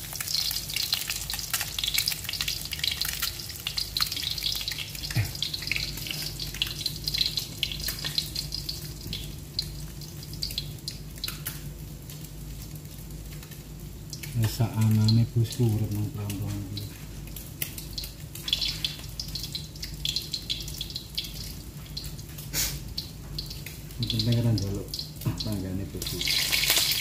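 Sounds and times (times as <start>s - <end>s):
eggs frying with spattering pops: 0.0s - 27.0s
low steady hum: 0.0s - 27.0s.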